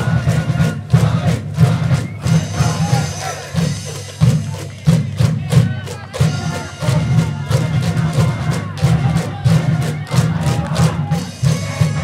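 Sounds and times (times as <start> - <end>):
brass band playing a cheer song: 0.0 - 12.0
driving drum beat: 0.0 - 12.0.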